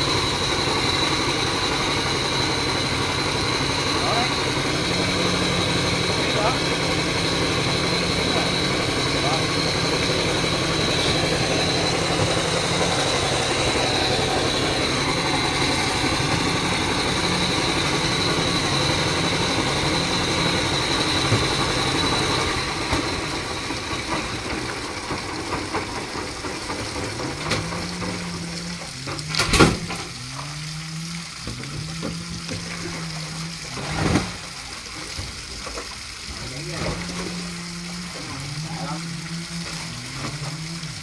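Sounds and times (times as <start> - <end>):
low engine hum: 0.0 - 41.0
water splashing and draining: 0.0 - 41.0.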